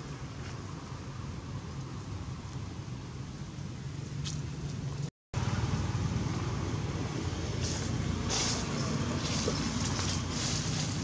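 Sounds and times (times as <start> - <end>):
low outdoor rumble with hiss: 0.0 - 11.0.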